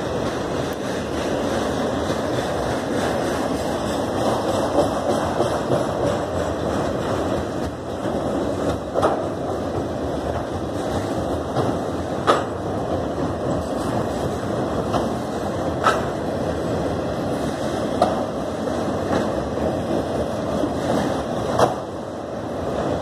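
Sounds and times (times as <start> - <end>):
steel wheels rumbling on rails: 0.0 - 23.0.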